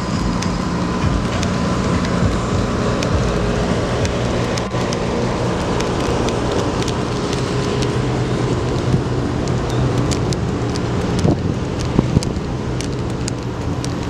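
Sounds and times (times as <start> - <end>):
engine rumble: 0.0 - 14.0
faint steady whine: 0.0 - 14.0.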